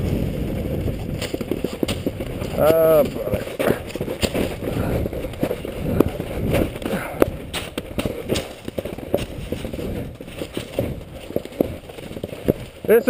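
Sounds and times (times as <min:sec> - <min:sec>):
board chattering on ruts: 0:00.0 - 0:13.0
snowboard scraping over snow: 0:00.0 - 0:13.0.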